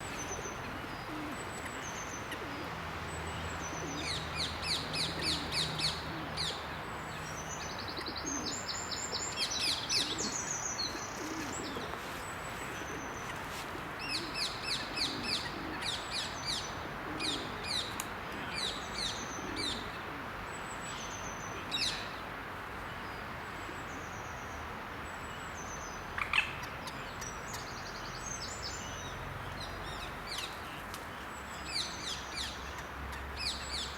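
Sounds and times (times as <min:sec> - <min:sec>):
songbirds singing: 0:00.0 - 0:33.9
steady background hiss: 0:00.0 - 0:33.9.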